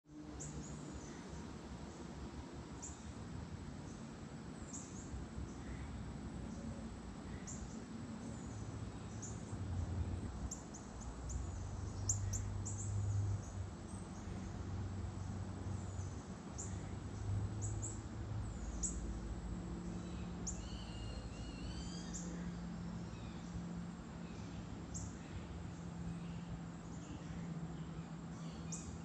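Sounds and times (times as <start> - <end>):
low outdoor rumble: 0.1 - 29.0
songbirds chirping: 0.1 - 29.0.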